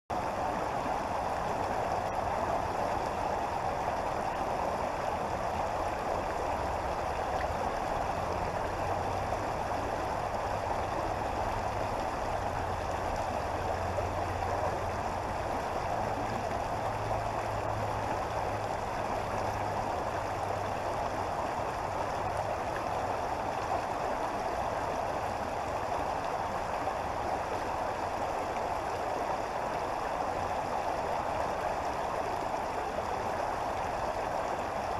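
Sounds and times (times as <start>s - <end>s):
creek water flowing: 0.1s - 34.9s.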